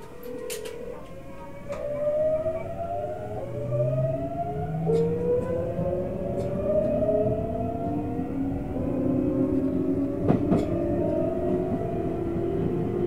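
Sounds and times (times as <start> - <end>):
electric train motor whine: 0.0 - 13.0
train running gear rumble: 0.0 - 13.0.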